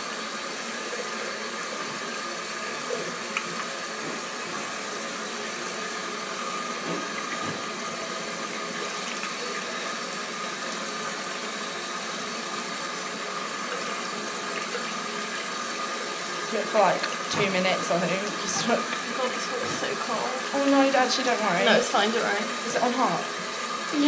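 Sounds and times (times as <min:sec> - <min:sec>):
tap water running into sink: 0:00.0 - 0:24.0.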